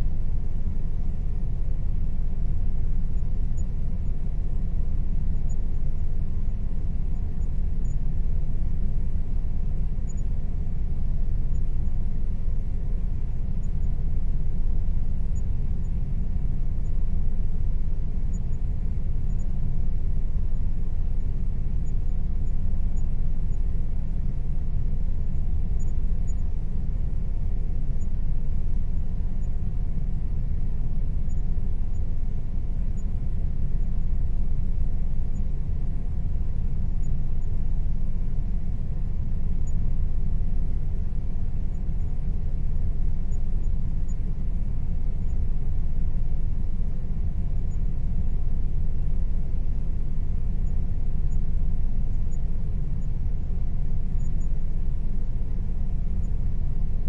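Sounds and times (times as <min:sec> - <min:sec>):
air conditioner running: 0:00.0 - 0:57.0.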